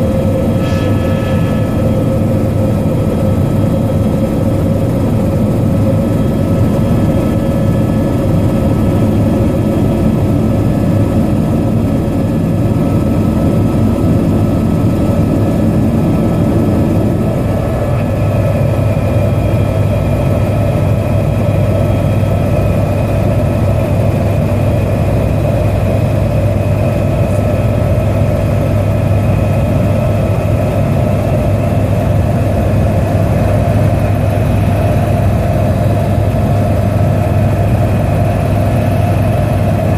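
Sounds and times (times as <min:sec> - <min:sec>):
helicopter engine and rotor drone: 0:00.0 - 0:39.9
high-pitched whine: 0:00.0 - 0:39.9.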